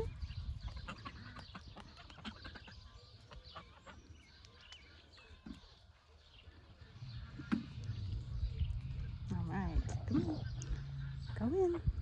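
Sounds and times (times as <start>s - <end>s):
geese pecking clicks and taps: 0.0s - 8.2s, 9.9s - 12.0s.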